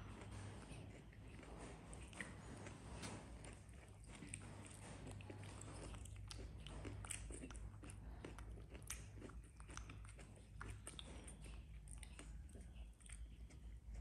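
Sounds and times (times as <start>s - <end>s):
chewing and biting: 0.0s - 14.0s
low steady hum: 0.0s - 14.0s.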